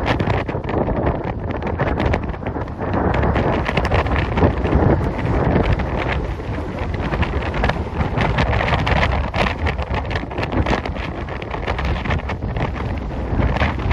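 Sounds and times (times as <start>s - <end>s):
sea waves crashing: 0.0s - 13.9s
wind buffeting microphone: 0.0s - 13.9s.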